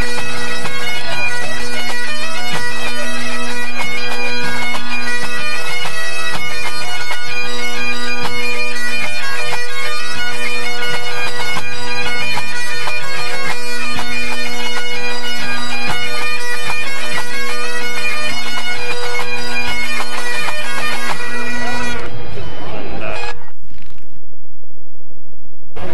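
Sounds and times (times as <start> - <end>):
bagpipes playing over drones: 0.0 - 23.3.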